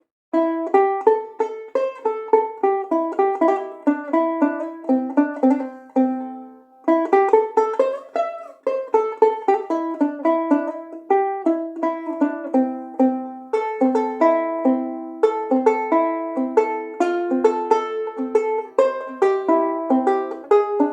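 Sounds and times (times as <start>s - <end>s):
banjolele picked melody: 0.3s - 20.9s.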